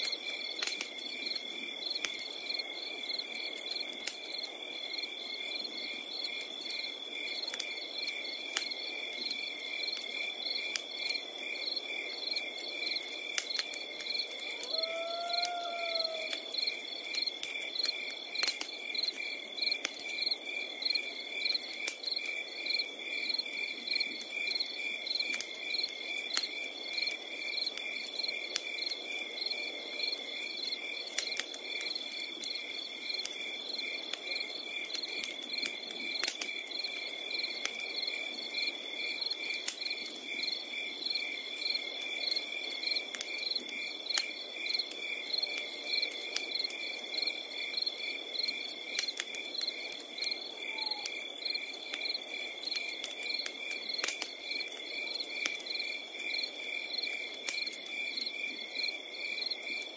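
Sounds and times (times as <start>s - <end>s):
campfire crackling: 0.0s - 59.9s
crickets chirping: 0.0s - 59.9s.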